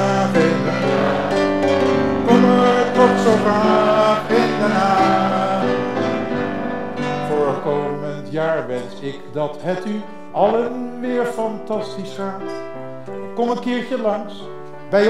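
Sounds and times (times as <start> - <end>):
grand piano playing chords and melody: 0.0 - 15.0.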